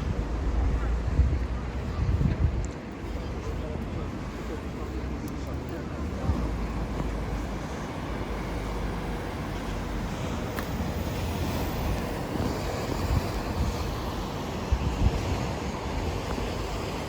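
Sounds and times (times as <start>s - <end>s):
wind on microphone: 0.0s - 4.3s, 7.2s - 17.0s
street noise: 0.0s - 17.0s.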